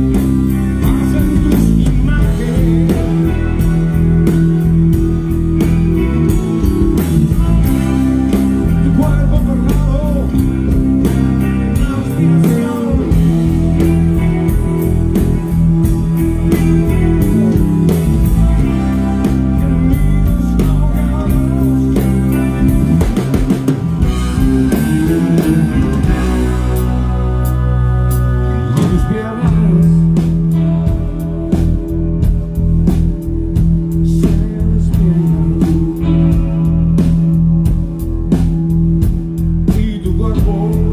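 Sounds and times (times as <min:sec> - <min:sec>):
electric bass: 0:00.0 - 0:40.9
electric guitar bending notes: 0:00.0 - 0:40.9
steady drum beat: 0:00.0 - 0:40.9.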